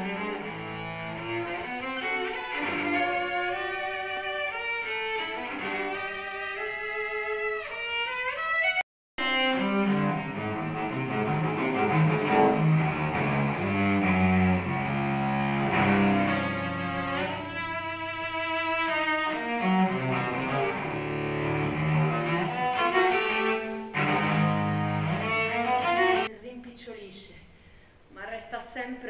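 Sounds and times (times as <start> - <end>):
cello playing slow held notes: 0.0 - 26.3.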